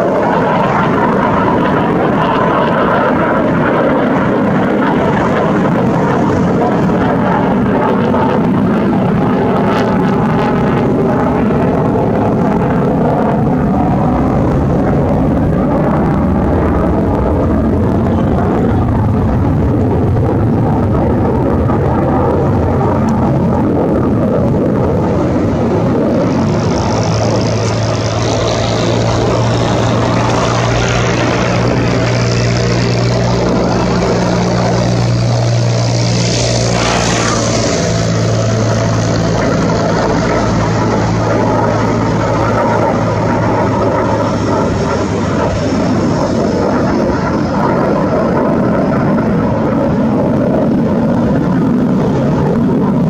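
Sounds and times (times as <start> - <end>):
fighter jet flying past: 0.0 - 53.0.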